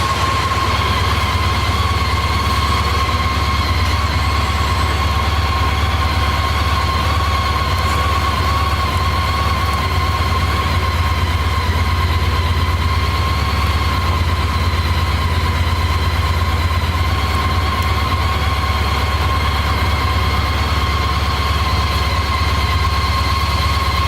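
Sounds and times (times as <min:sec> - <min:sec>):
motorcycle engine idling: 0:00.0 - 0:24.0
steady high whine: 0:00.0 - 0:24.0.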